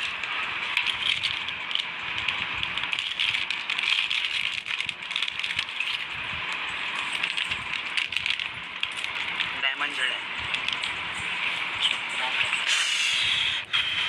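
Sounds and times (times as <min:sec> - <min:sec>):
plastic packaging crackling: 0:00.0 - 0:09.6, 0:10.3 - 0:12.2.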